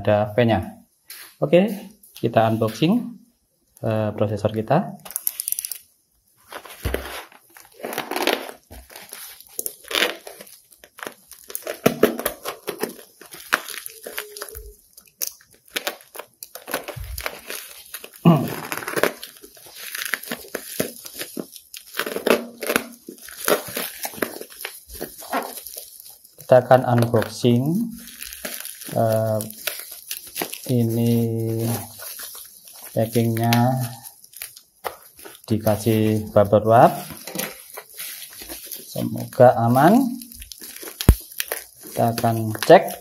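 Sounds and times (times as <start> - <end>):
plastic packaging crinkling: 5.0 - 43.0.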